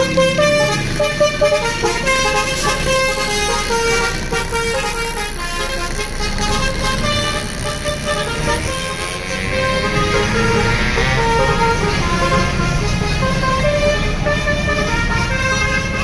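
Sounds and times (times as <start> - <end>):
bus engine running: 0.0 - 16.0
musical horn playing a tune: 0.0 - 16.0.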